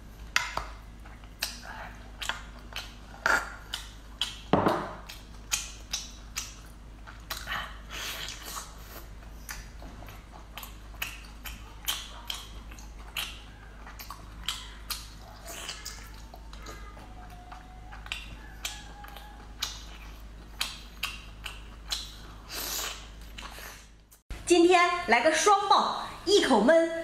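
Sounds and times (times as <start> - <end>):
chewing food: 0.0 - 24.2.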